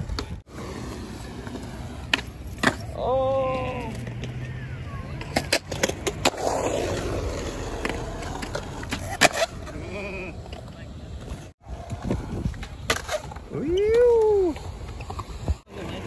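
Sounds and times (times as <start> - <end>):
skateboard wheels rolling on concrete: 0.0 - 16.0.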